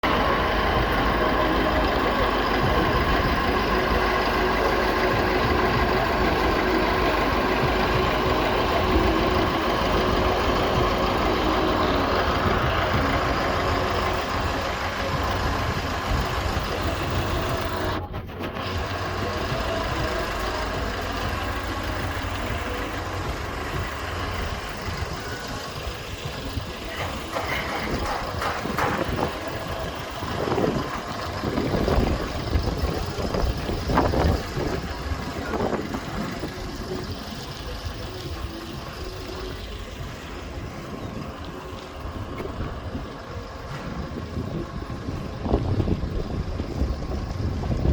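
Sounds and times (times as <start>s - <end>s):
concrete mixer engine running: 0.0s - 47.9s.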